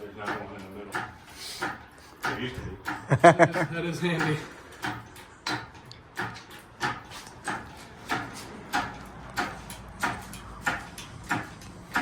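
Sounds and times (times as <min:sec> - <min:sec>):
engine hoist mechanical clicks: 0:00.0 - 0:12.0.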